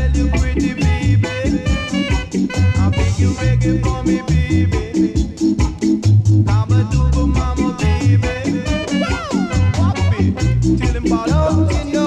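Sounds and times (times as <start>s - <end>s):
reggae music: 0.0s - 12.0s.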